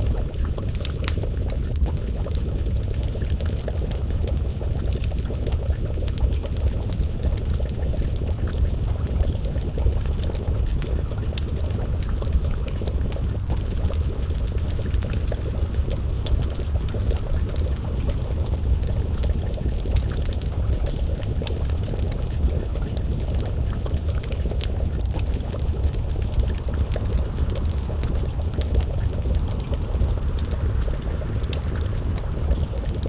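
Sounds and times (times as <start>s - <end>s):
stew bubbling in a pot: 0.0s - 33.0s
wood fire crackling: 0.0s - 33.0s.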